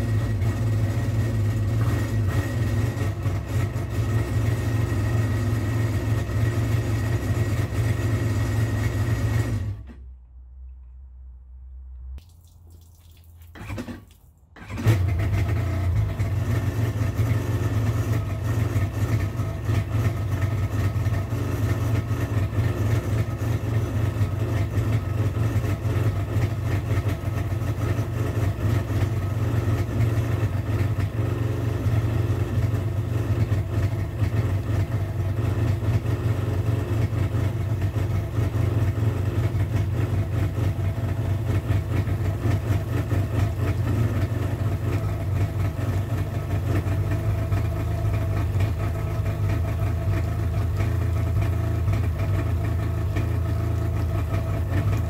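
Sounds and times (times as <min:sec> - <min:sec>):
two-stroke engine idling: 0:00.0 - 0:09.8, 0:14.6 - 0:55.0.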